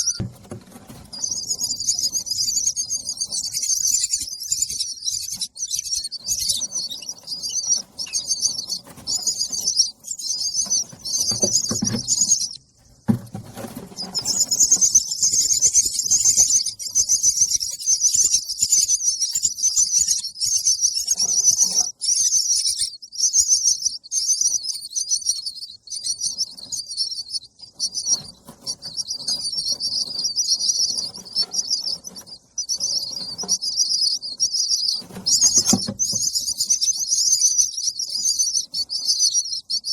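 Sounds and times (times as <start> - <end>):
baby bird chirping: 0.0 - 39.9.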